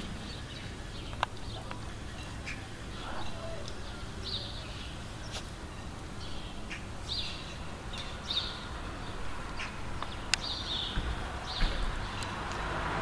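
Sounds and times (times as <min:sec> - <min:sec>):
bird chirping high: 0:00.0 - 0:12.4.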